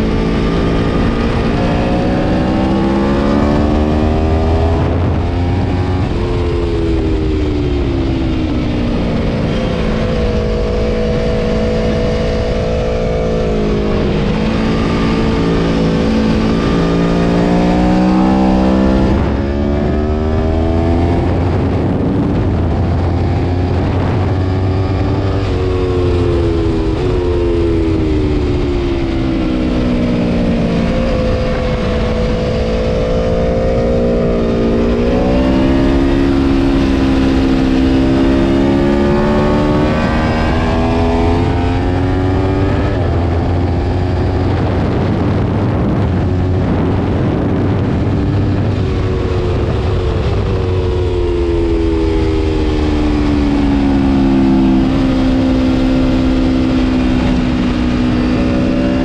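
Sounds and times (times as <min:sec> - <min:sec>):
motorcycle engine revving hard: 0:00.0 - 0:59.0.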